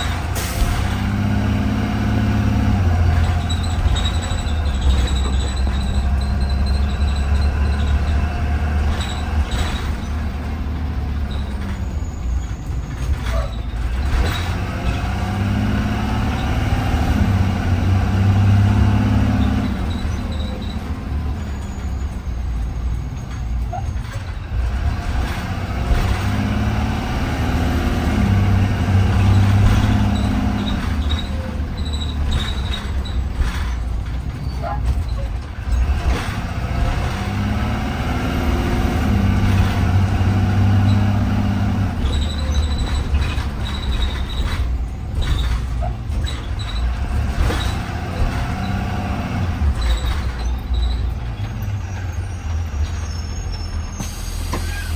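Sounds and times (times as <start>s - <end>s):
bus body knocks and rattles: 0.0s - 54.9s
bus engine pulling: 0.0s - 54.9s.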